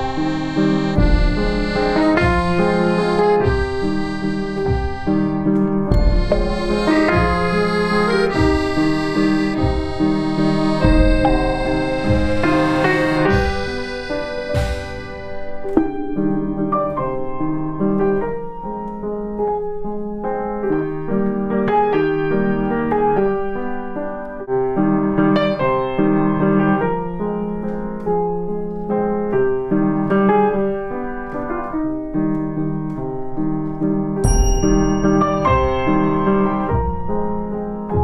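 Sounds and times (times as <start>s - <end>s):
solo piano music: 0.0s - 38.0s.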